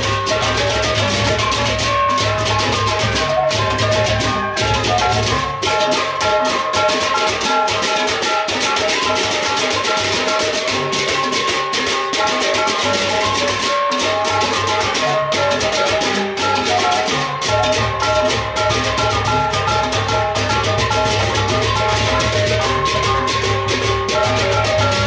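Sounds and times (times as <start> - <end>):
hand cymbals clashing: 0.0 - 25.0
large barrel drum beating: 0.0 - 25.0
small gongs melody: 0.0 - 25.0.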